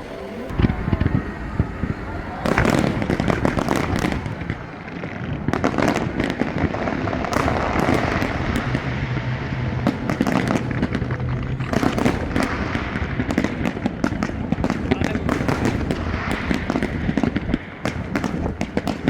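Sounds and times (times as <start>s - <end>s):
fireworks bangs and crackling: 0.4s - 19.0s.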